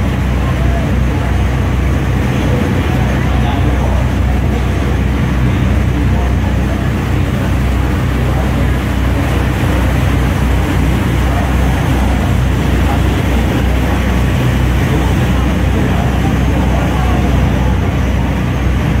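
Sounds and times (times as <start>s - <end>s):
boat engines humming: 0.0s - 19.0s
churning water rushing: 0.0s - 19.0s.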